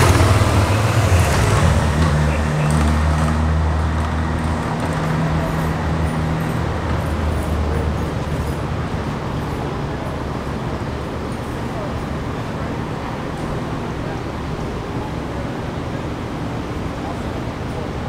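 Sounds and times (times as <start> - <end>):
motorcycles riding past: 0.0 - 18.0
street noise: 0.0 - 18.0.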